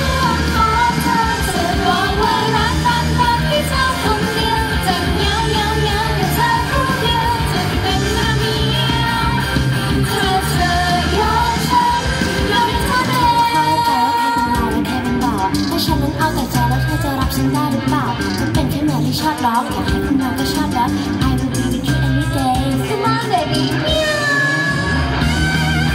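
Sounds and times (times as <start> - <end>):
woman singing into microphone: 0.0 - 25.1
backing track with steady beat: 0.0 - 25.9.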